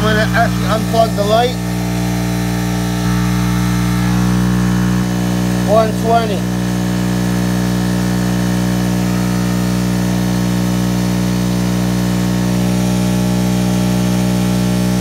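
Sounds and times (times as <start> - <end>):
generator humming: 0.0 - 15.0.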